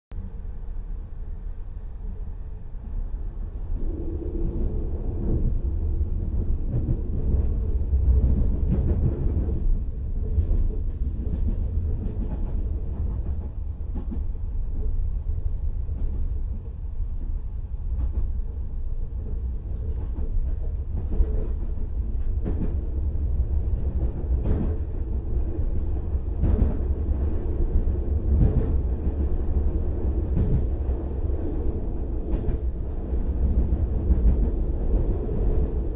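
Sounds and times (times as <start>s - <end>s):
train rumbling along track: 0.1s - 35.9s.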